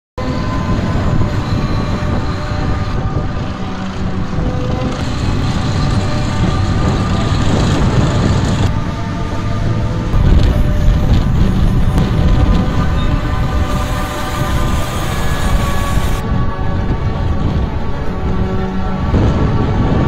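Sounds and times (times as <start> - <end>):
diesel truck engines rumbling: 0.2 - 20.0.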